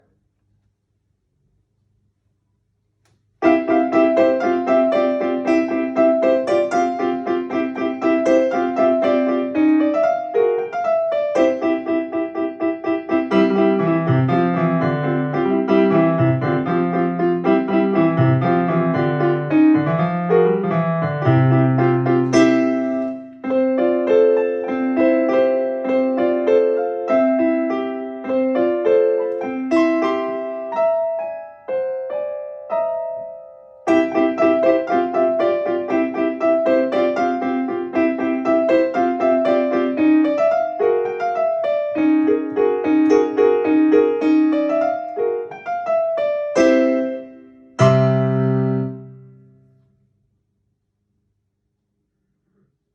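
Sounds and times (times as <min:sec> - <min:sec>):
solo piano piece: 0:03.4 - 0:49.9.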